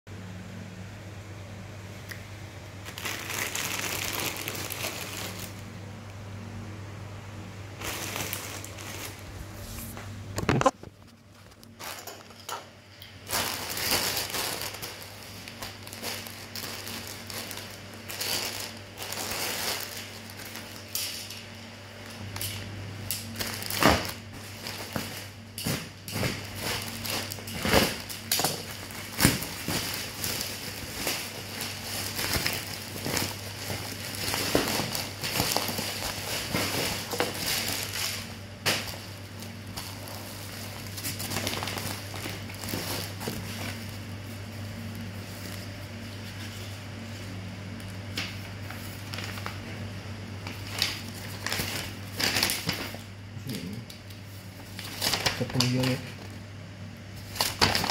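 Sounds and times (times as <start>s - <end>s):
steady low hum: 0.1s - 57.9s
packaging crinkling and rustling: 2.8s - 5.7s, 7.8s - 56.4s, 57.1s - 57.9s.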